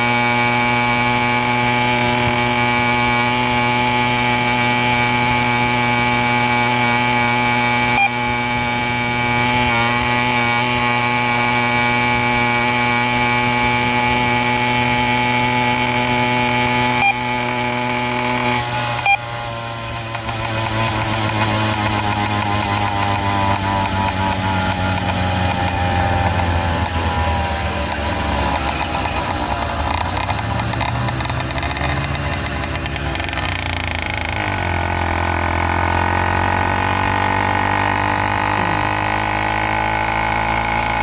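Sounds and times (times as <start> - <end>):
small engine running: 0.0 - 41.0.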